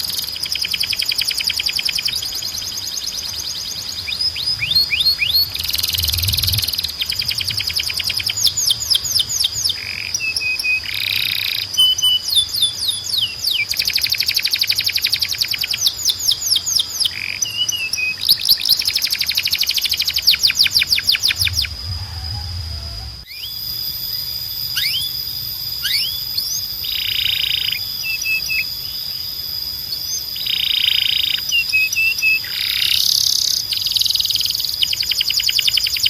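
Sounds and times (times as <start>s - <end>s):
canary singing: 0.0s - 36.0s.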